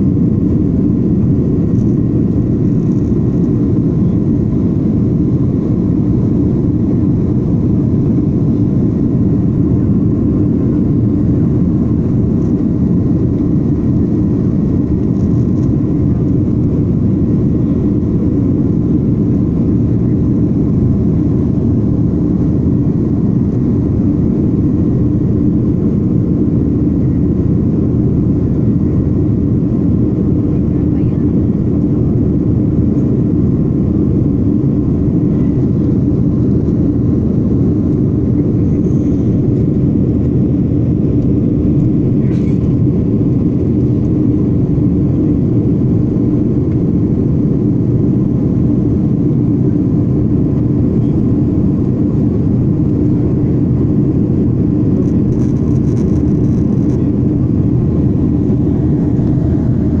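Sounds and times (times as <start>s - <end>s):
jet airliner cabin drone: 0.0s - 60.0s.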